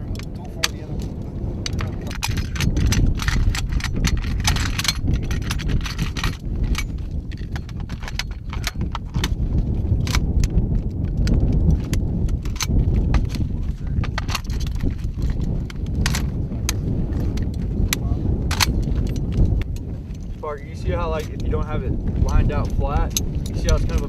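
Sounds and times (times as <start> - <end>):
steady low rumble: 0.0 - 24.0
metal gun parts clicking: 0.2 - 9.4, 10.0 - 17.6, 18.5 - 20.3, 22.3 - 24.0.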